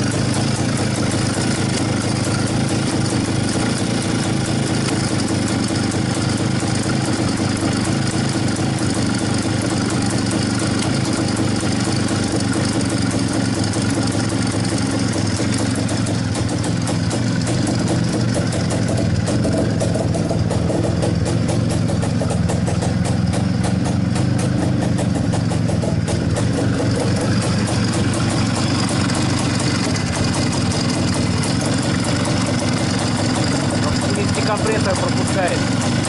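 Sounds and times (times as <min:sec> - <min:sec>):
two-stroke engine idling: 0:00.0 - 0:36.0.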